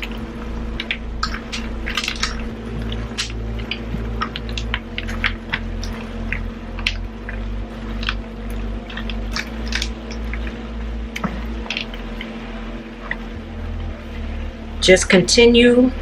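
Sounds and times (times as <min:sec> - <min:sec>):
wet squishing of stirred food: 0:00.0 - 0:13.4.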